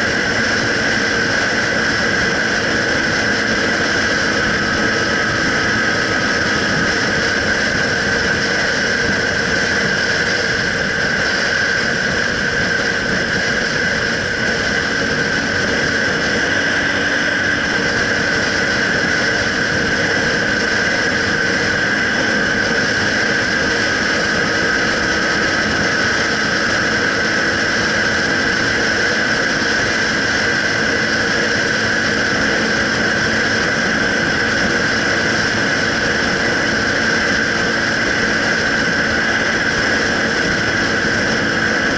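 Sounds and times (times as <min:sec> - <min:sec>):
motorcycle engine cruising: 0:00.0 - 0:41.9
steady high whine: 0:00.0 - 0:41.9
wind noise: 0:00.0 - 0:41.9.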